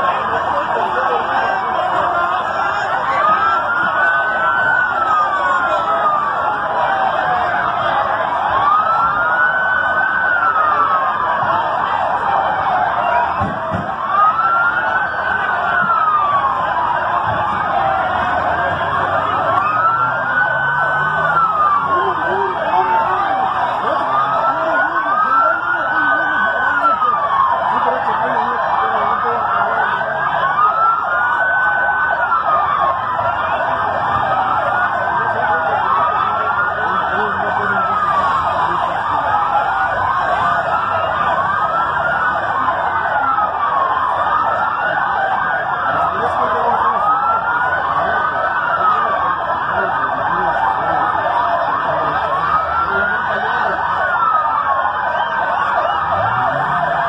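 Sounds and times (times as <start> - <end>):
emergency sirens wailing: 0.0 - 57.0.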